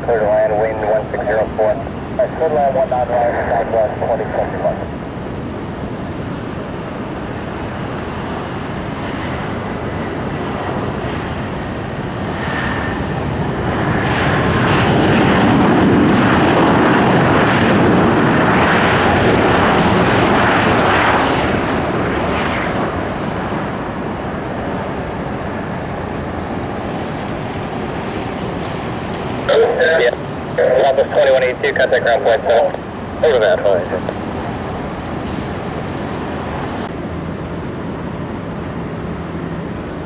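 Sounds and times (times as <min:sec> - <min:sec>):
jet airliner passing by: 0:00.0 - 0:40.0.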